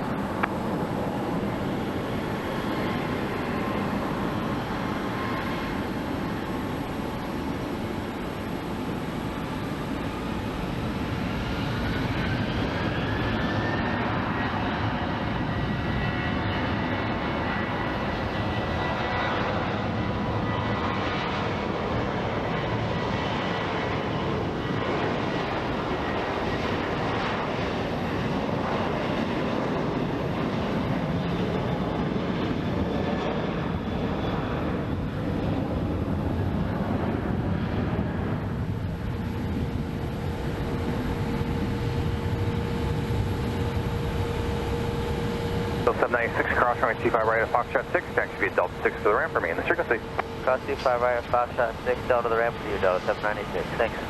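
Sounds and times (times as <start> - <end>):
jet engines at takeoff power: 0.0 - 54.0.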